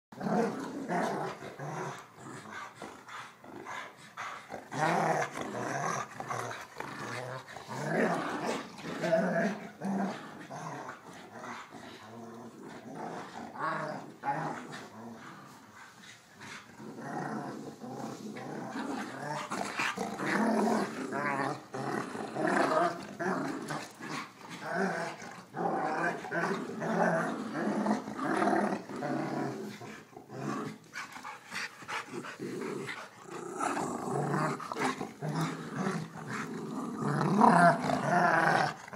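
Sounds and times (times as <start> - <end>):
dogs growling in play: 0.1 - 38.9.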